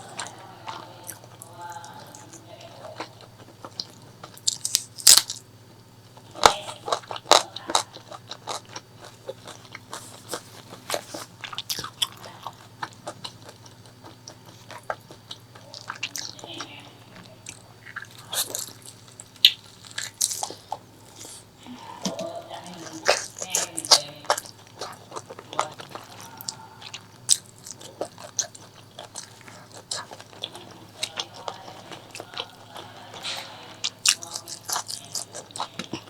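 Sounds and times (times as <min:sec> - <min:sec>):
crunchy chewing and biting: 0:00.0 - 0:36.0.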